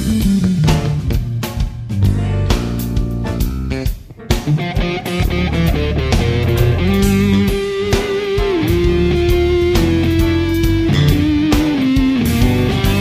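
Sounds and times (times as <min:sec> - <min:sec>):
rock music with guitar and drums: 0:00.0 - 0:13.0.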